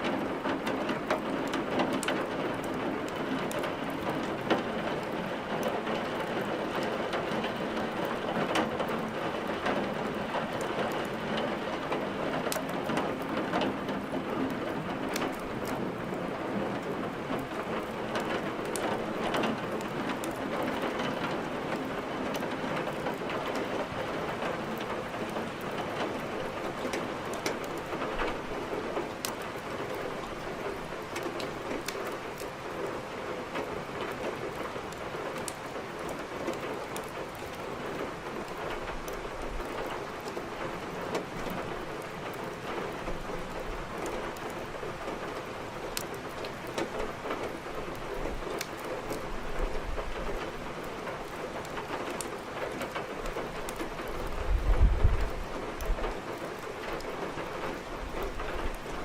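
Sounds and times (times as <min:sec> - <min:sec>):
steady rain: 0:00.0 - 0:59.0
firewood crackling: 0:07.4 - 0:16.1, 0:16.8 - 0:32.8, 0:33.4 - 0:59.0.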